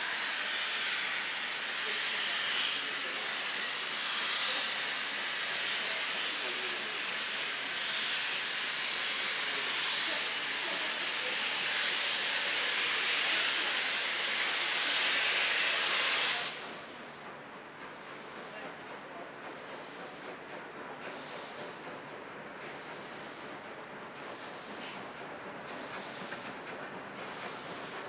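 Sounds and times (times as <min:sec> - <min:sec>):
steam locomotive hissing steam: 0:00.0 - 0:28.0.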